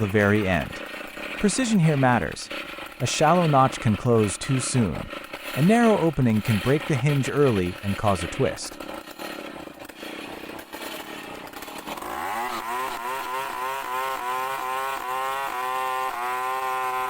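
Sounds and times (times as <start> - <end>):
chainsaw running: 0.0 - 17.0.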